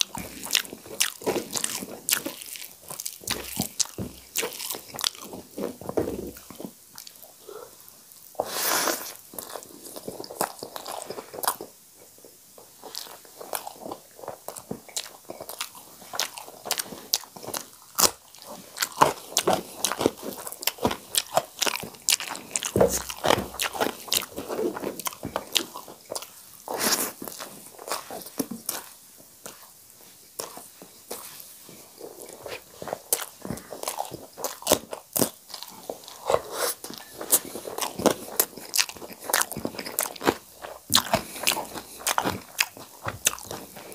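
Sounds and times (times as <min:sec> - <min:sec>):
wet chewing with mouth clicks: 0:00.0 - 0:43.9.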